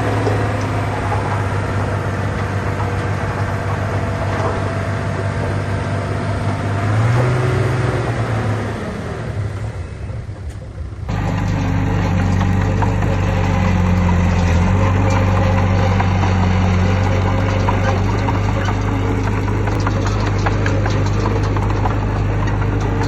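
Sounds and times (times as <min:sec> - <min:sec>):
another engine humming: 0:00.0 - 0:23.0
heavy diesel engine humming: 0:00.0 - 0:23.0.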